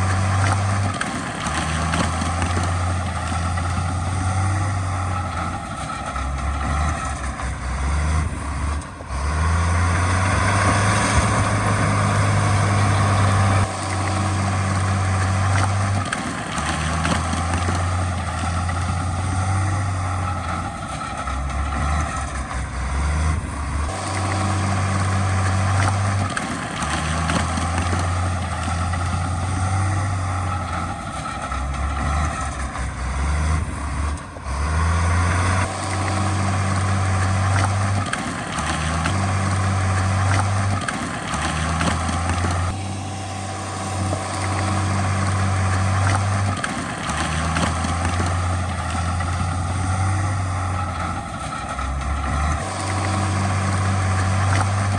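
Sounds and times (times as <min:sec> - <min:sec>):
heavy diesel machinery engine: 0:00.0 - 0:54.9.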